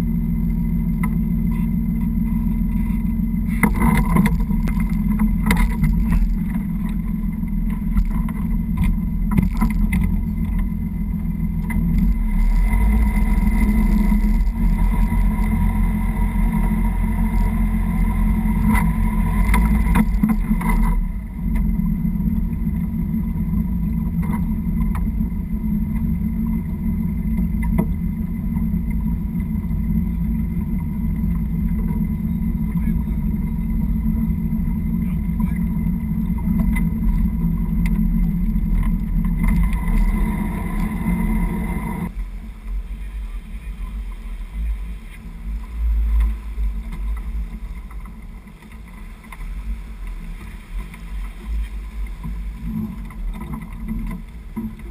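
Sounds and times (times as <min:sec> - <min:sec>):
boat engine humming: 0:00.0 - 0:54.9.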